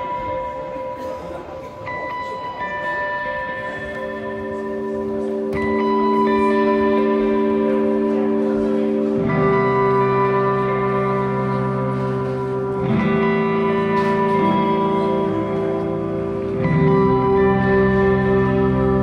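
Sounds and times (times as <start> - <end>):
slow held music chords: 0.0 - 19.0.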